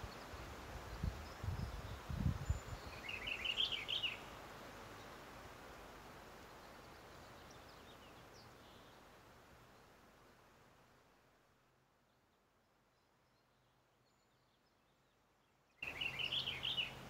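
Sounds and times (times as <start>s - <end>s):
background hiss: 0.0s - 17.0s
songbird singing: 0.0s - 17.0s.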